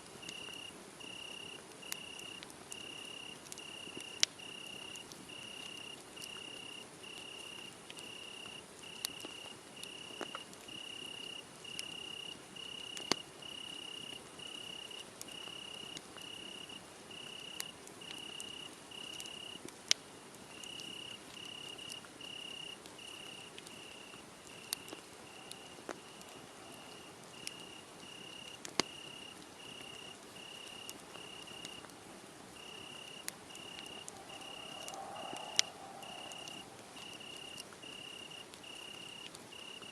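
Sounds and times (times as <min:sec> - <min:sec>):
wood fire crackling: 0:00.0 - 0:39.9
crickets chirping: 0:00.2 - 0:19.6, 0:20.5 - 0:39.9.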